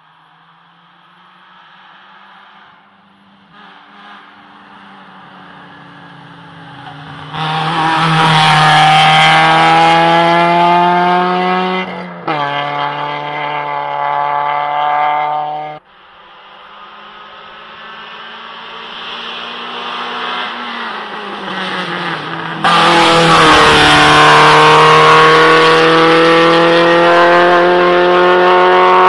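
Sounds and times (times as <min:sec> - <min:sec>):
rally car engine revving: 0:03.4 - 0:29.0.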